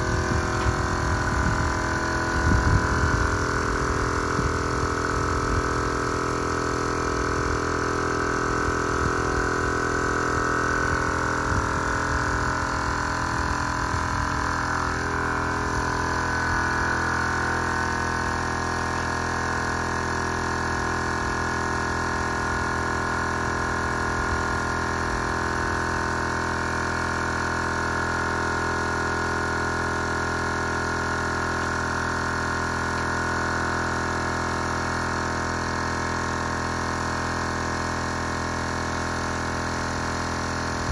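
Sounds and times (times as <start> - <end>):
air compressor motor hum: 0.0 - 40.9.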